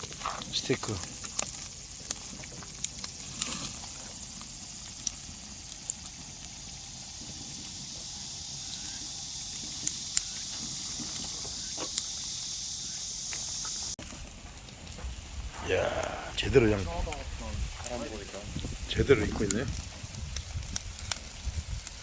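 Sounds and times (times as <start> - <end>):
meat hissing on grill: 0.0 - 22.0
wood fire crackling and popping: 0.0 - 22.0.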